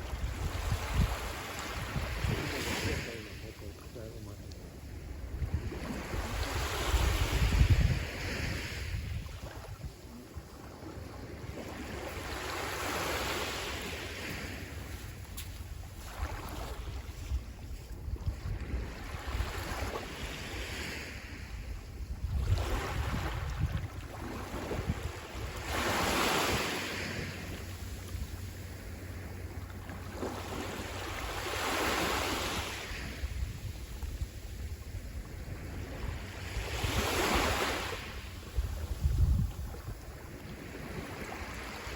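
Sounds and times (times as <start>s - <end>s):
sea waves breaking on shore: 0.0s - 41.9s
wind rumble on microphone: 0.0s - 41.9s.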